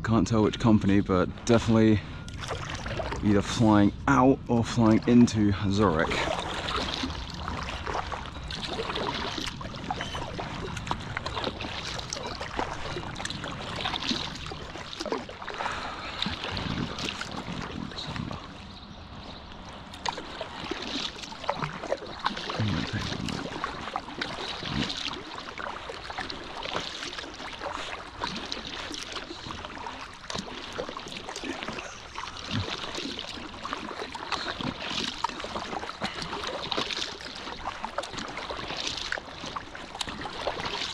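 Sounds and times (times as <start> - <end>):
water trickling off paddle: 0.0 - 40.9
paddle splashing in water: 1.3 - 3.8, 4.5 - 40.9.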